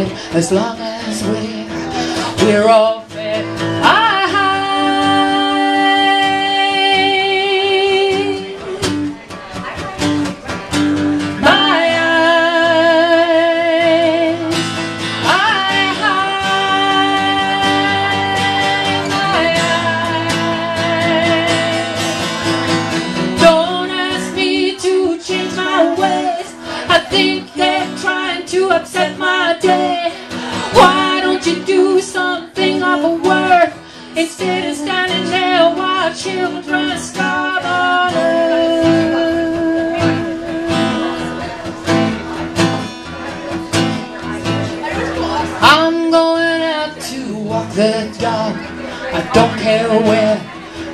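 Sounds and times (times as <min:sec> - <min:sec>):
strummed acoustic guitar: 0:00.0 - 0:50.9.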